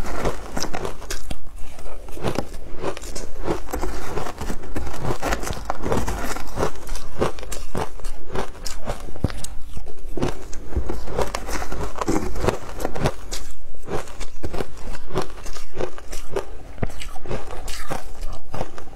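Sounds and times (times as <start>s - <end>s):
ice being chewed: 0.0s - 18.9s.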